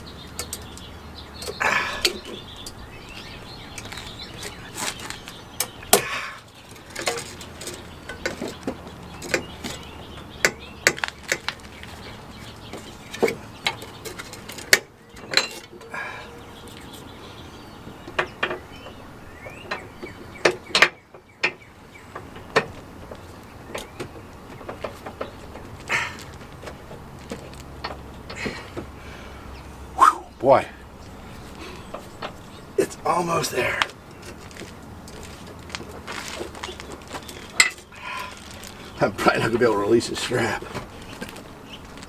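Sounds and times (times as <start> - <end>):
faint birds chirping: 0.0 - 42.0.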